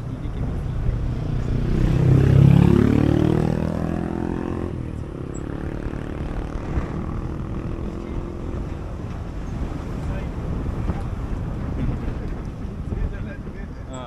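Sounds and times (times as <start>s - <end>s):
vehicle engine accelerating: 0.0s - 13.4s.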